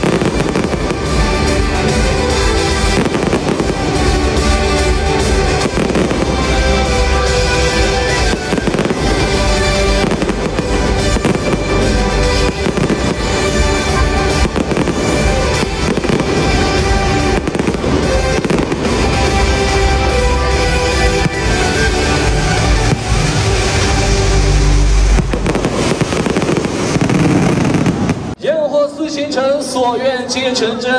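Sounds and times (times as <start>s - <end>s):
loud music with held tones: 0.0s - 27.8s
fireworks banging: 0.0s - 28.4s.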